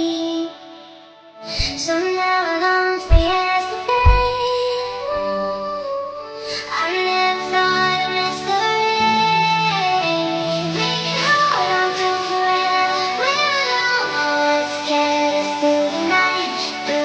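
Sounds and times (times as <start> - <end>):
song with vocals and instruments: 0.0 - 17.0.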